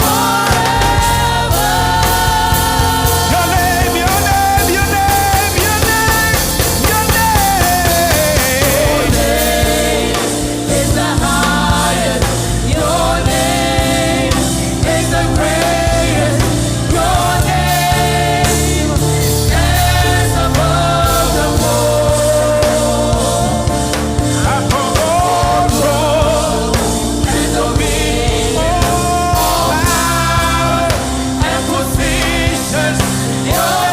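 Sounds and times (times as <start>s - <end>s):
gospel song with choir and band: 0.0s - 33.9s.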